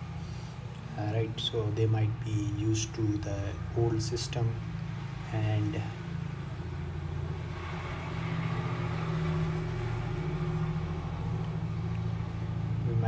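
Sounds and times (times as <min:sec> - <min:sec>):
motor running with low hum: 0:00.0 - 0:13.0.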